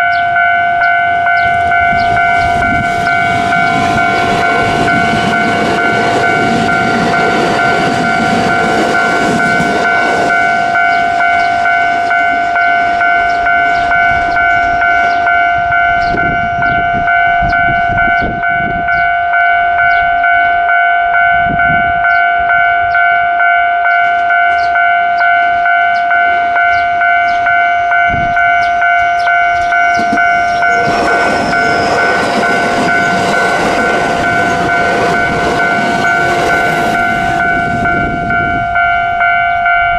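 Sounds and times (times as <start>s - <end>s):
level crossing warning bell: 0.0s - 39.9s
train rumbling on rails: 0.0s - 39.9s.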